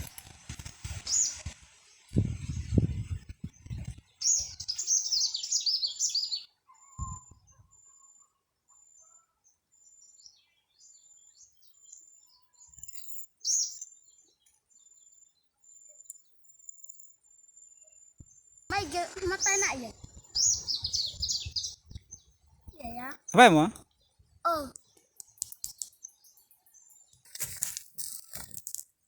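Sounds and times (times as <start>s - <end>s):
bird chirping: 3.6s - 27.4s.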